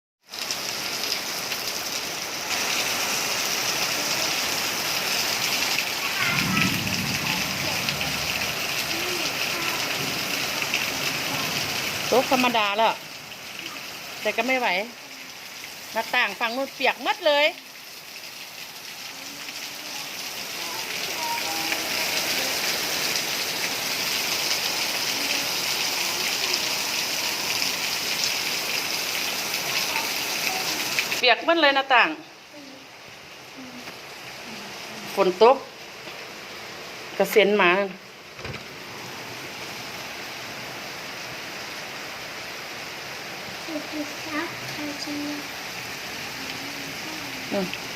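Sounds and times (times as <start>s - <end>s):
heavy rain pouring: 0.2s - 47.9s.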